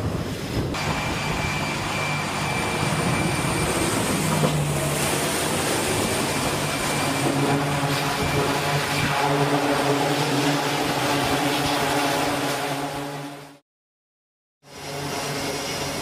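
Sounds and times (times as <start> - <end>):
high turbine whine: 0.0 - 13.6, 14.6 - 16.0
low propeller hum: 0.0 - 13.6, 14.6 - 16.0.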